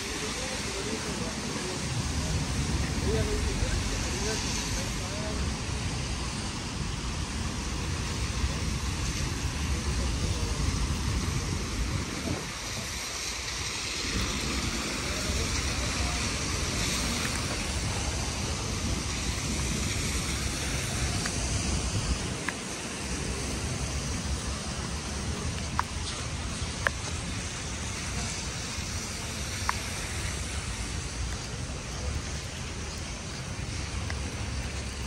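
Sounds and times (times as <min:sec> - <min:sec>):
rain falling on wet paving: 0:00.0 - 0:35.0.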